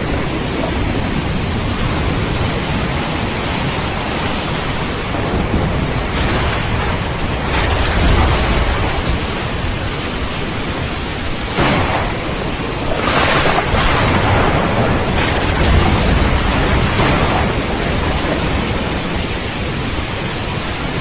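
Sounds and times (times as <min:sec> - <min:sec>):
heavy rain: 0:00.0 - 0:21.0
rolling thunder: 0:00.0 - 0:21.0.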